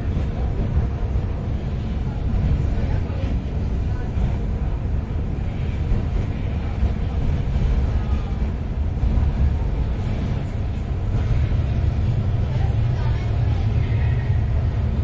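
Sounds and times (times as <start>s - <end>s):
funicular train rumble: 0.0s - 15.0s.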